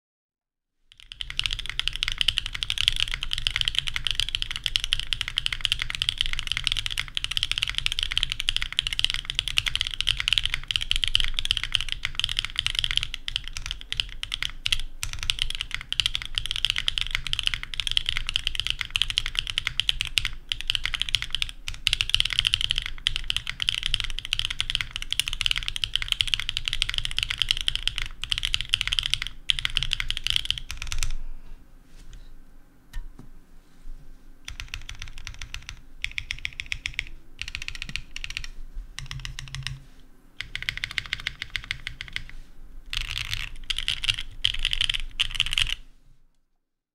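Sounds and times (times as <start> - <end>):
mechanical keyboard typing: 0.9 - 31.2, 34.5 - 39.8, 40.4 - 45.8.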